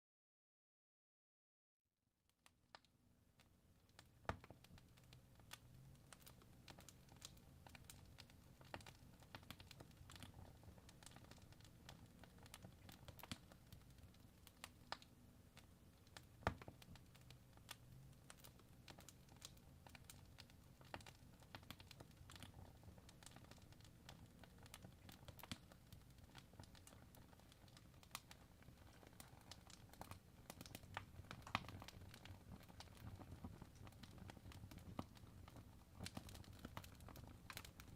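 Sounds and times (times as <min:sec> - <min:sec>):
fire crackling: 0:03.4 - 0:37.9.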